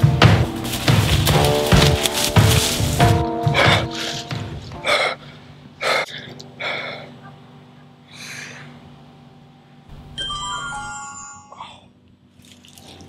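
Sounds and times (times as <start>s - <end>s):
higher music tones: 0.0s - 12.4s
low music drone: 0.0s - 13.0s.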